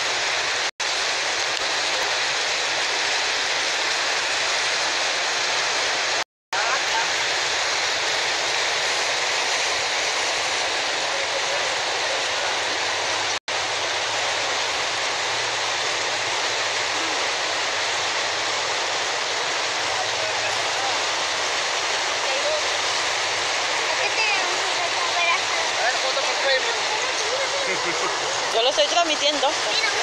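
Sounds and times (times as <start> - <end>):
turbulent floodwater rushing: 0.0 - 30.0.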